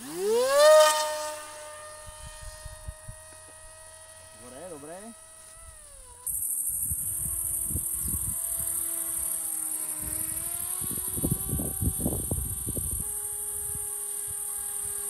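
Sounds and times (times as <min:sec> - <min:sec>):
electric propeller droning: 0:00.0 - 0:15.0
wind gusts on microphone: 0:00.3 - 0:03.8, 0:05.6 - 0:15.0.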